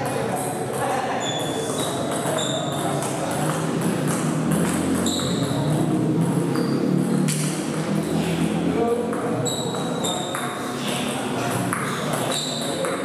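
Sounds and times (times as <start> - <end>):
ping-pong ball clicking: 0.3 - 7.8, 9.1 - 13.0
shoes squeaking on floor: 0.4 - 8.2, 9.2 - 13.0.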